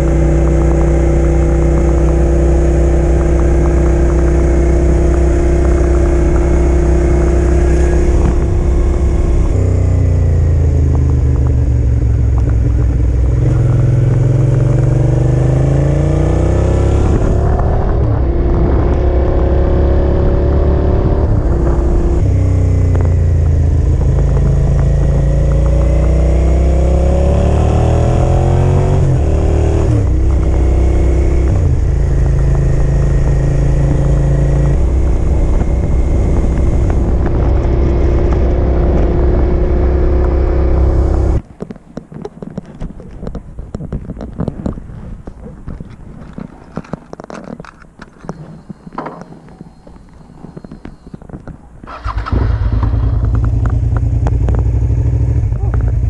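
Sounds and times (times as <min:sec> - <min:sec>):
motorcycle engine accelerating: 0:00.0 - 0:41.4, 0:43.1 - 0:56.0.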